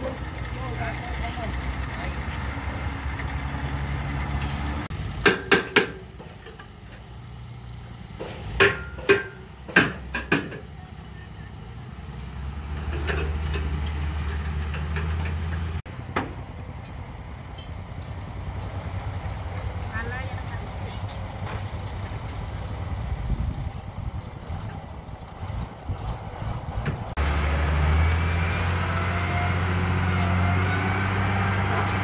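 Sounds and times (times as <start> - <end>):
construction machinery engine drone: 0.0 - 32.0.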